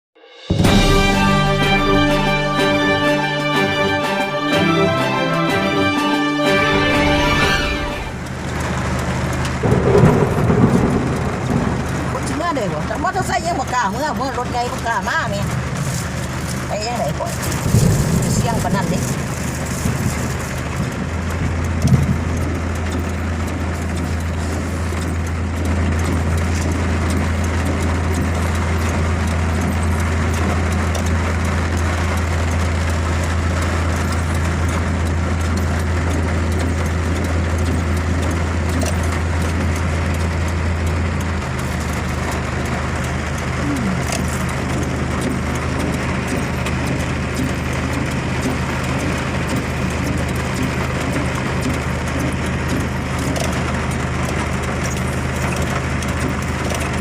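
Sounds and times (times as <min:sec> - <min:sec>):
road noise: 0:00.3 - 0:57.0
car engine hum: 0:00.5 - 0:57.0.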